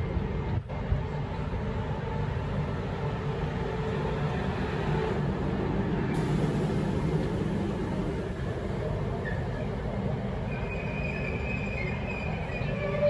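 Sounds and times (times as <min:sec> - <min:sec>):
electric train running slowly: 0:00.0 - 0:13.0.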